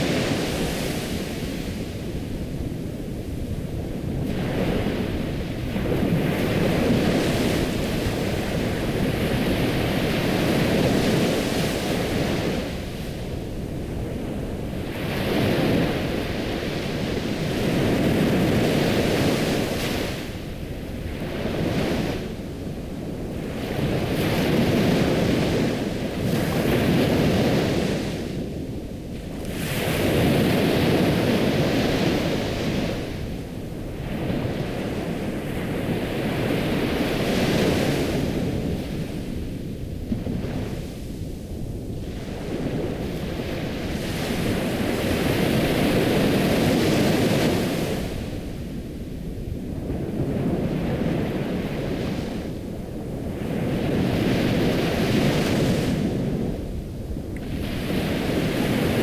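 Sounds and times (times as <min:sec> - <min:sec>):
waves breaking: 0:00.0 - 0:49.1, 0:49.7 - 0:59.0.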